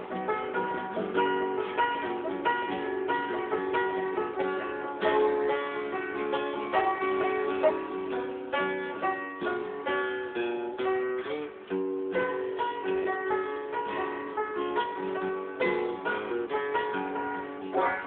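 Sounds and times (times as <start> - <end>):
acoustic guitar: 0.0 - 18.0
banjo: 0.0 - 18.0.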